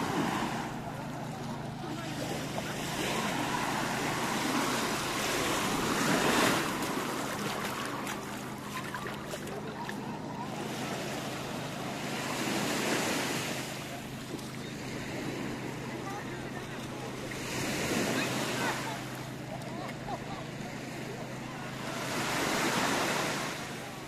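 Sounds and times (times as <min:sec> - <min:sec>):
small waves washing onto beach: 0:00.0 - 0:24.0.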